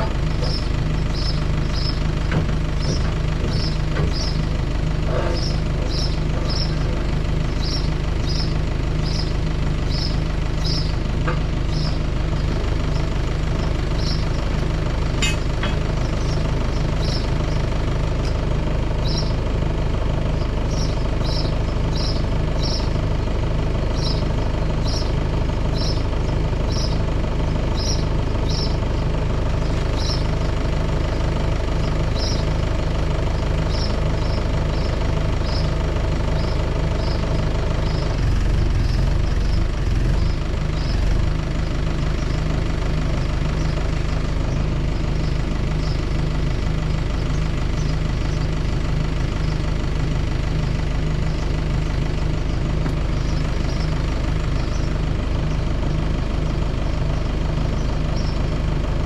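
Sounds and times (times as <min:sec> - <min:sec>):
engine humming steadily: 0:00.0 - 0:59.0.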